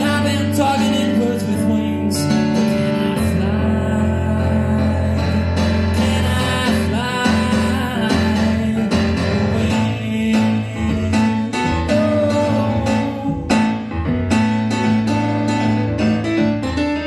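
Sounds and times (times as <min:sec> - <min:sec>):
man singing: 0:00.0 - 0:14.2
piano chords: 0:00.0 - 0:17.0.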